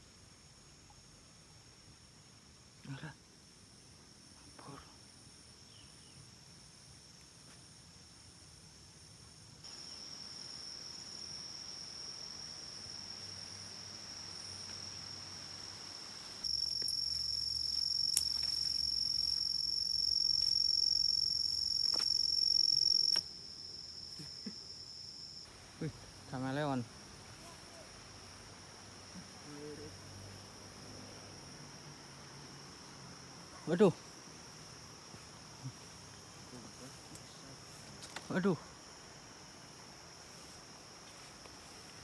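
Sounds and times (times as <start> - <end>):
faint pulsing insect chirp: 0.0 - 42.0
insect high-pitched trill: 0.0 - 42.0.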